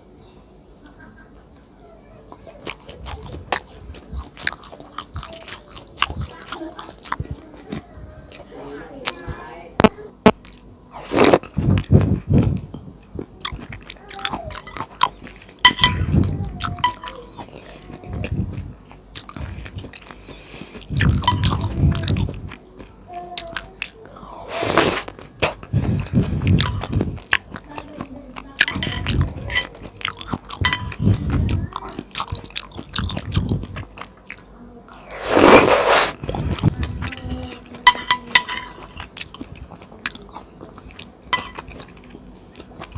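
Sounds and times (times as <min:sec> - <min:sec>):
biting and chewing: 0:02.3 - 0:09.4, 0:10.2 - 0:42.9.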